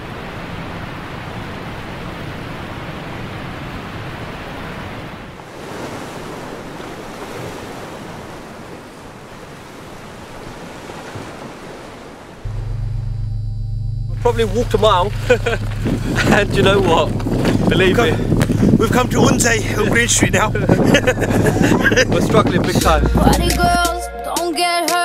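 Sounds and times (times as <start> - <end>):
ocean surf breaking on shore: 0.0 - 12.6, 14.2 - 23.8.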